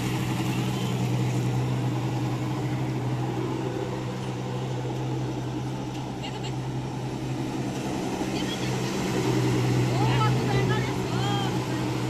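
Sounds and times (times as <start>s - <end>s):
jet ski engine droning: 0.0s - 12.0s.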